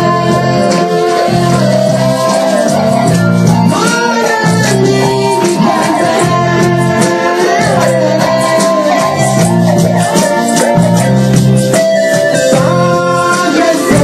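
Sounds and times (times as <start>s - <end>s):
shaker percussion: 0.0s - 14.0s
worship music: 0.0s - 14.0s.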